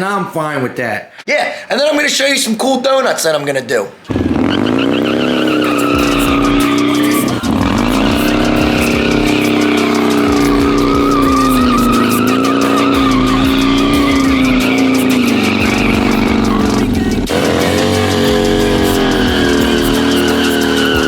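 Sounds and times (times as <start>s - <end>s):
motorcycle engine revving high: 4.1s - 21.0s
tire squealing on pavement: 4.1s - 21.0s.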